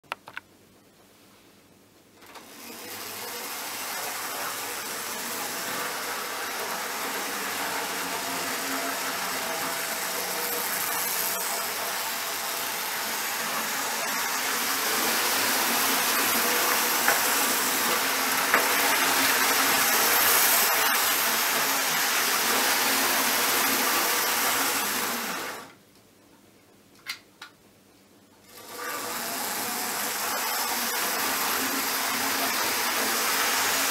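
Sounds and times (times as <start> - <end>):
model train motor whirring: 2.2 - 25.7, 28.5 - 33.9.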